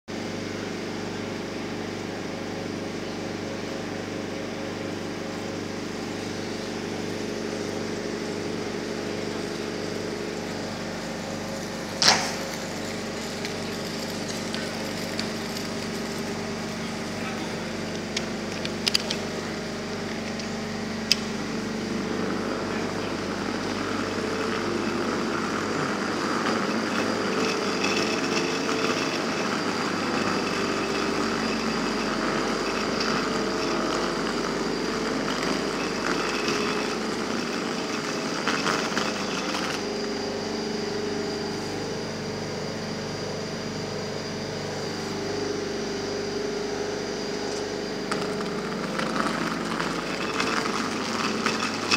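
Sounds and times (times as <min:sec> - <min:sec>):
electric trains humming: 0:00.3 - 0:51.9.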